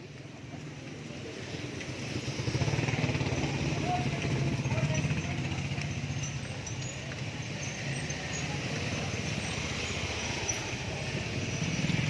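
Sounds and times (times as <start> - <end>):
street noise: 0.0 - 12.0
small motorcycle engine running: 1.3 - 12.0.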